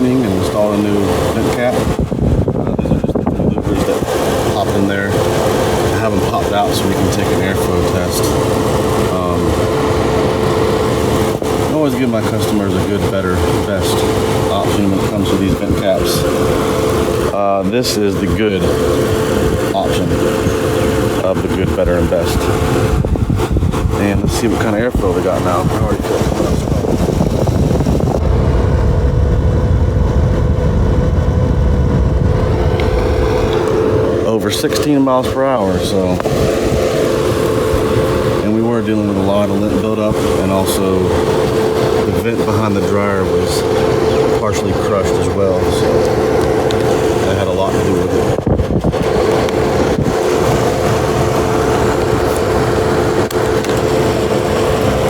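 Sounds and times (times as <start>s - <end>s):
air rushing from vent: 0.0s - 55.0s
steady hum: 0.0s - 55.0s.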